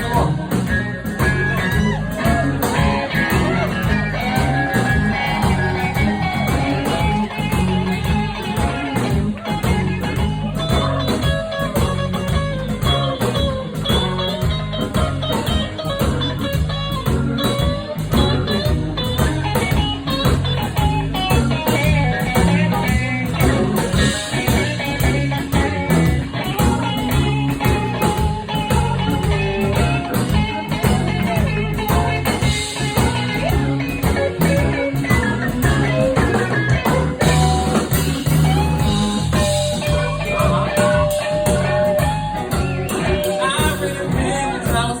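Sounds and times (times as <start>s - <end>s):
bass: 0.0s - 45.0s
drums with steady beat: 0.0s - 45.0s
electric guitar lead lines: 0.0s - 45.0s.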